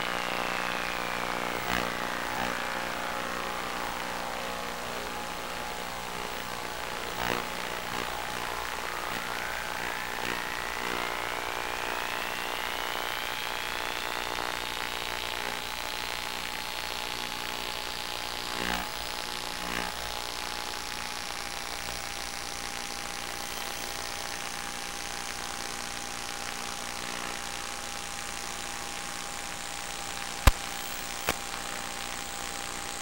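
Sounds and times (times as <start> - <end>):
electric motor and propeller whine: 0.0 - 33.0.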